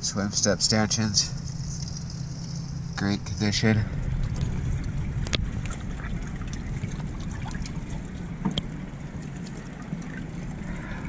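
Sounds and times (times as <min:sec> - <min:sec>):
water sloshing against boat hull: 0:01.3 - 0:11.0.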